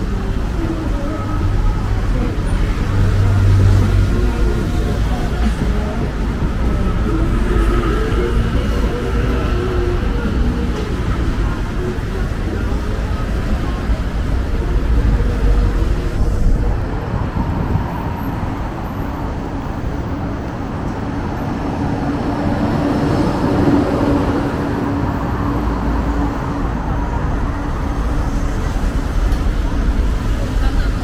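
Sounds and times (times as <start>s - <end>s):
bus passing: 0.0s - 31.0s
city road traffic: 0.0s - 31.0s.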